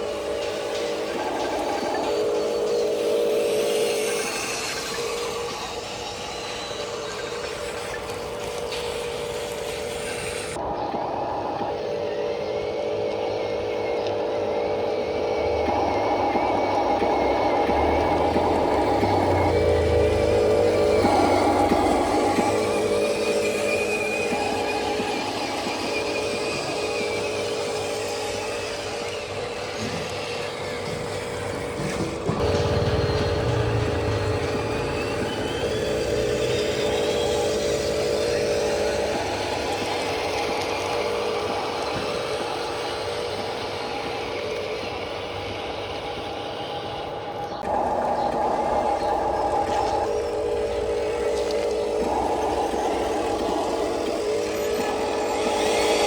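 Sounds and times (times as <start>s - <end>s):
deeper motor hum: 0.0s - 56.0s
low buzz: 0.0s - 56.0s
motor and gear whine: 0.0s - 56.0s.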